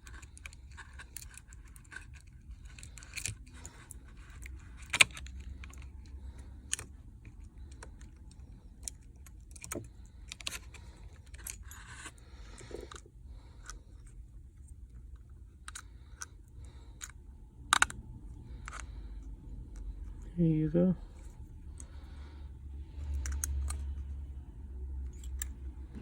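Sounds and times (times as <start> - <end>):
small tools clicking on phone parts: 0.0 - 20.2, 22.8 - 24.2, 25.0 - 26.0
faint low hum: 0.0 - 26.0.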